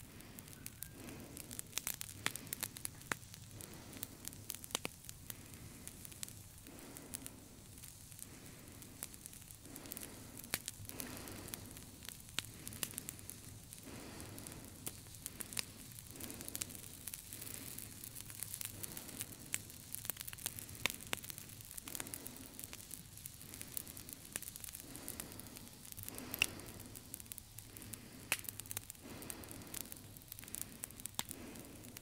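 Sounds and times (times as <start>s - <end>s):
crackling and fizzing noise: 0.0s - 32.0s.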